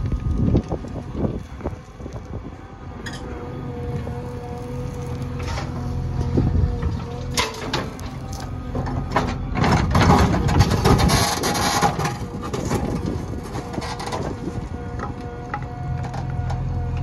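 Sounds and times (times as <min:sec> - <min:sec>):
rushing scraping noise: 0:00.0 - 0:15.2
diesel engine running: 0:00.0 - 0:17.0.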